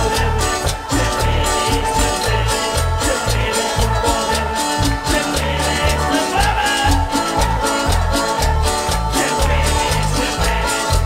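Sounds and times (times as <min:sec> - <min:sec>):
bouncing bass line: 0:00.0 - 0:11.0
live band playing worship music: 0:00.0 - 0:11.0.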